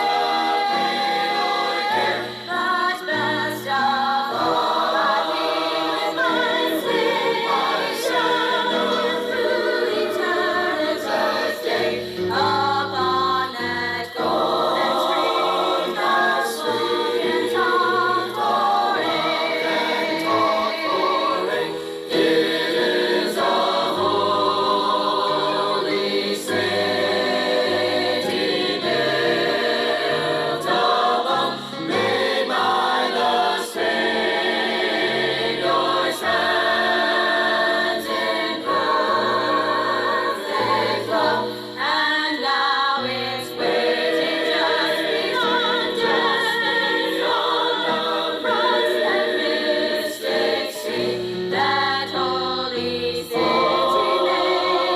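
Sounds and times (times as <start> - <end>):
choir singing gospel song: 0.0 - 54.9.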